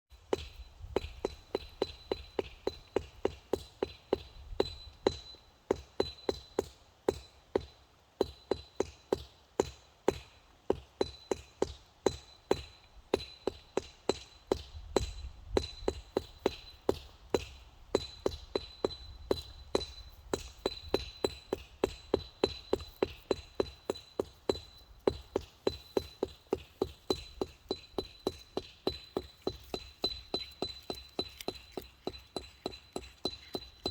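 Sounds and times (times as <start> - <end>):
hammer blows on stone: 0.1 - 33.9.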